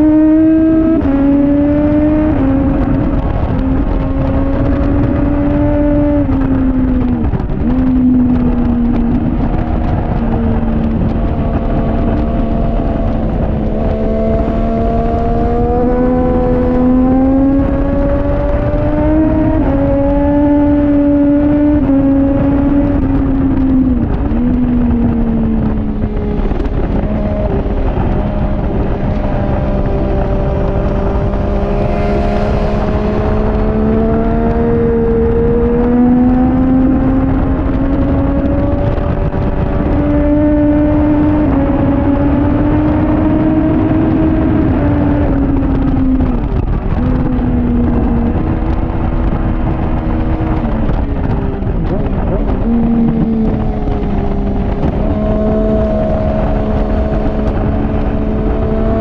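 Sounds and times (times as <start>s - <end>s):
motorcycle engine running hard: 0.0s - 59.0s
wind rushing: 0.0s - 59.0s.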